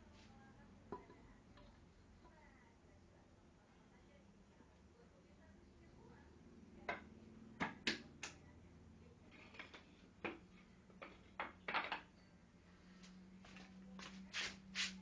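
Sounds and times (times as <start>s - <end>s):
faint steady hum: 0.0s - 14.3s.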